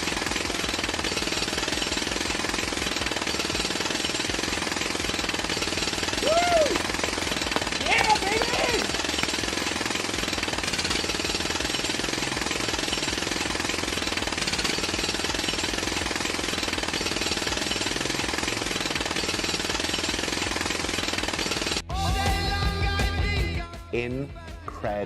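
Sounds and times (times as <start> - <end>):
jackhammer hammering: 0.0 - 23.6.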